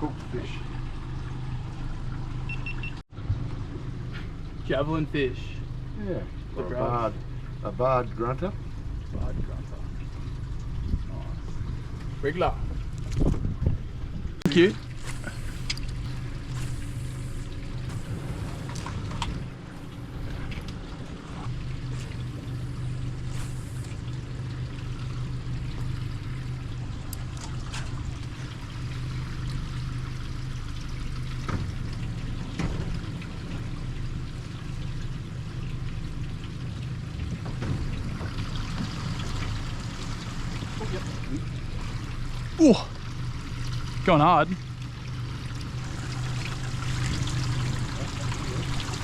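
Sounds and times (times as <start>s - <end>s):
low motor hum: 0.0s - 49.0s
water lapping against boat hull: 6.3s - 49.0s.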